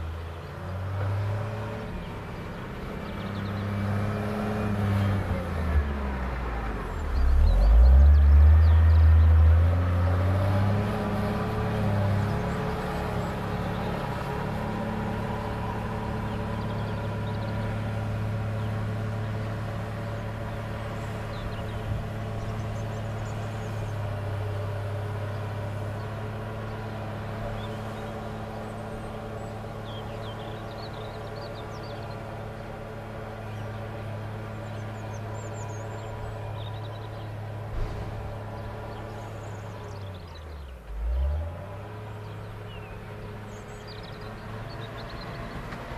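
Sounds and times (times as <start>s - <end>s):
wheel loader diesel engine: 0.0s - 45.9s.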